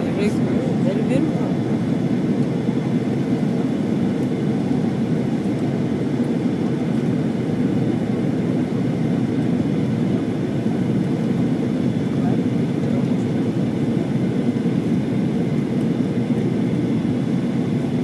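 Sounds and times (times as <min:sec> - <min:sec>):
jet airliner cabin rumble: 0:00.0 - 0:18.0.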